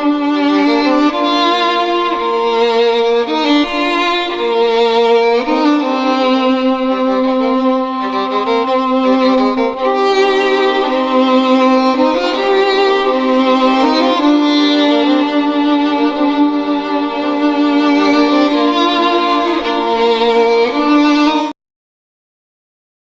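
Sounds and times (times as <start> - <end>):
violin music with held notes: 0.0 - 21.6.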